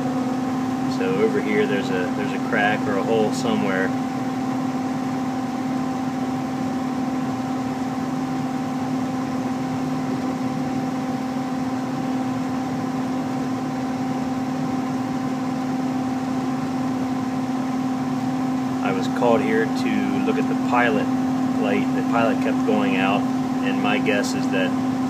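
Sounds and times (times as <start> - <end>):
blower fan air rush: 0.0 - 25.0
gas furnace humming: 0.0 - 25.0.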